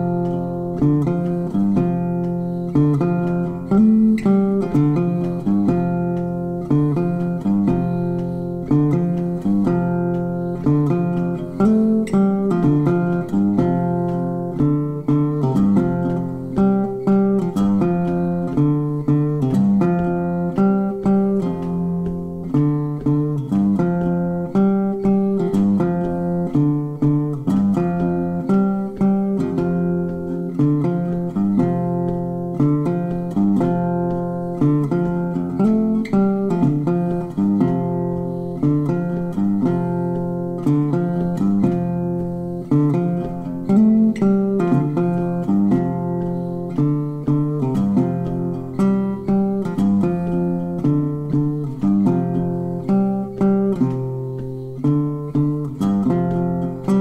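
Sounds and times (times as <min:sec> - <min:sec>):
acoustic guitar picking: 0:00.0 - 0:57.0.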